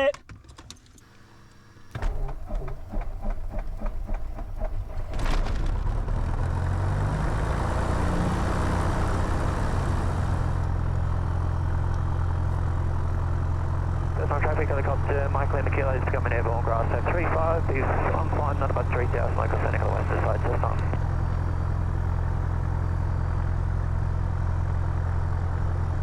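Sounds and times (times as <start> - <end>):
aircraft engine idling: 1.1 - 23.1.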